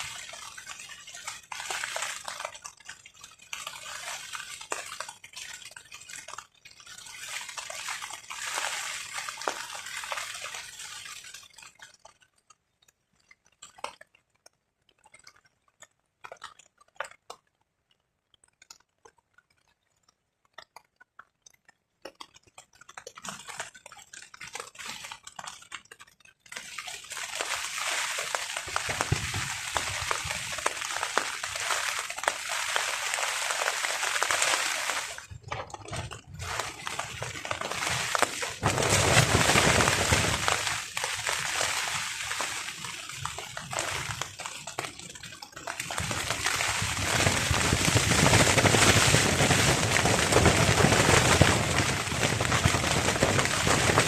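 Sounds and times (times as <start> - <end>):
rain on a tarp: 0.0 - 54.0.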